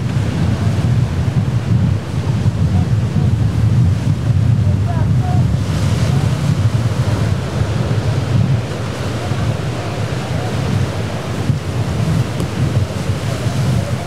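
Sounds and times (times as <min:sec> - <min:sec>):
surf breaking over rocks: 0:00.0 - 0:14.0
wind buffeting microphone: 0:00.0 - 0:14.0.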